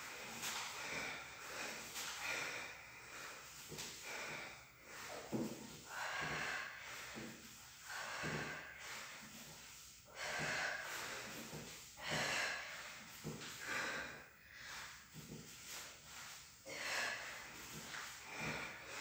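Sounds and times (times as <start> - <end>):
woman breathing hard: 0.0 - 19.0.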